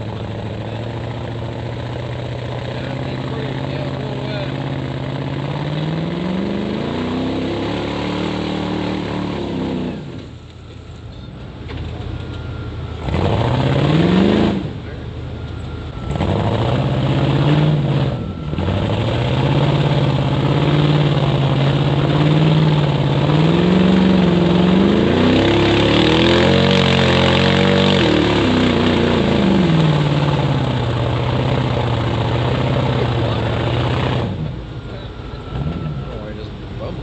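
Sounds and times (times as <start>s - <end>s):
off-road vehicle engine revving: 0.0s - 10.4s, 12.7s - 37.0s.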